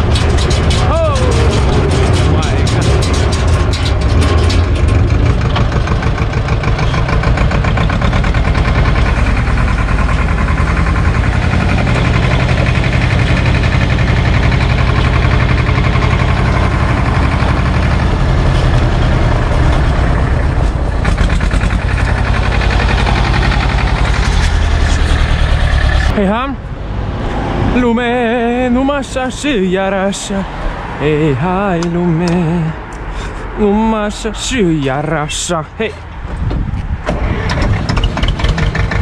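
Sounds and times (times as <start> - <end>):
tractor diesel engine running: 0.0 - 27.1, 27.8 - 39.0.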